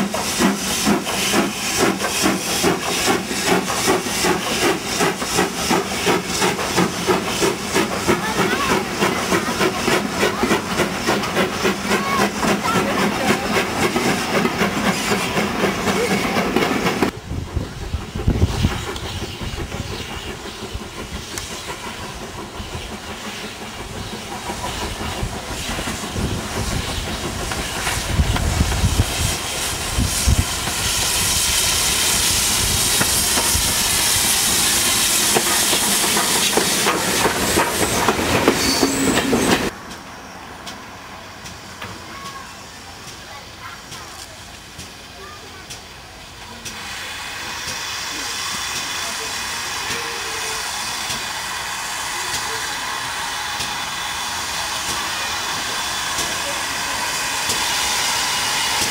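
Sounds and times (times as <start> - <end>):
steam hissing: 0.0 - 58.9
steam train chuffing: 0.0 - 58.9.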